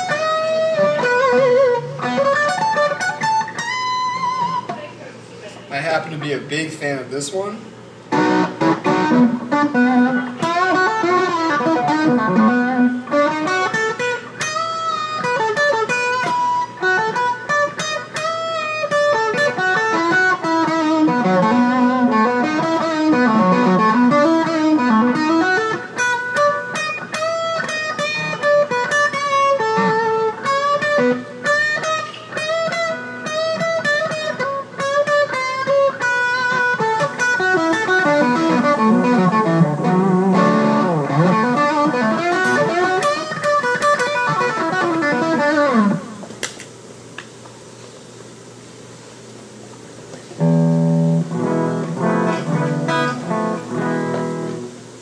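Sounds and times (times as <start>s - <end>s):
electric guitar lead: 0.0s - 5.2s, 7.8s - 46.6s, 50.1s - 55.0s.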